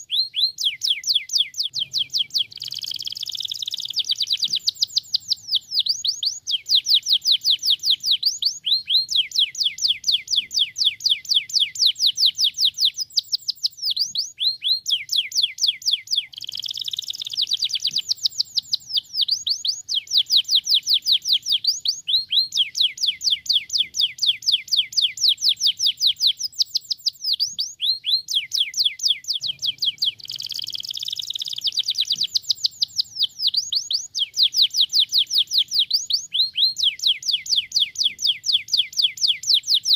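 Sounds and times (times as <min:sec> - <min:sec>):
canary singing in trills: 0:00.0 - 0:39.9.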